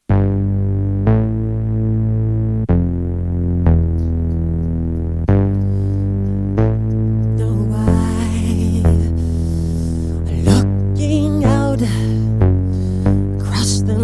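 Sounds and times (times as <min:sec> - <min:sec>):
synthesizer bass notes: 0:00.0 - 0:14.0.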